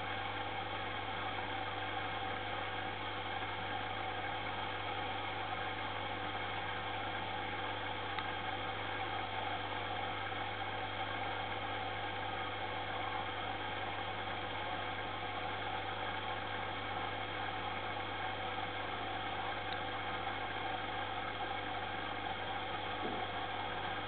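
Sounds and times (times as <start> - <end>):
aquarium equipment humming: 0.0 - 24.0.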